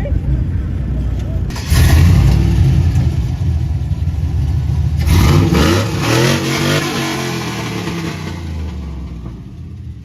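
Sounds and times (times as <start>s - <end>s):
vehicle engine rumbling and revving: 0.1s - 10.0s.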